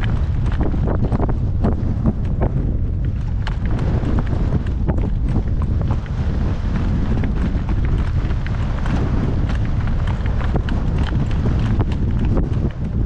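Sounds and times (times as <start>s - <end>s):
horse hoofbeats: 0.0s - 13.0s
wind buffeting microphone: 0.0s - 13.0s.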